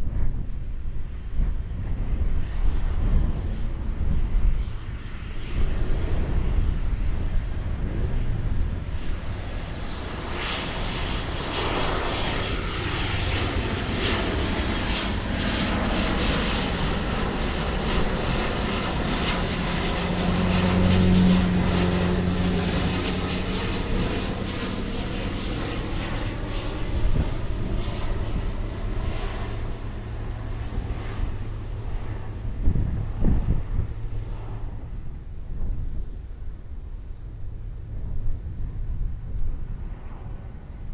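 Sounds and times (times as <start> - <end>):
jet airliner passing overhead: 0.0 - 40.9.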